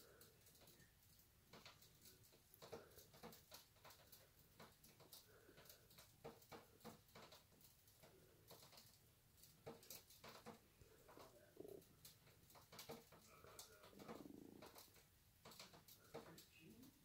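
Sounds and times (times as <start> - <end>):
faint small clicks and taps: 0.0 - 17.0.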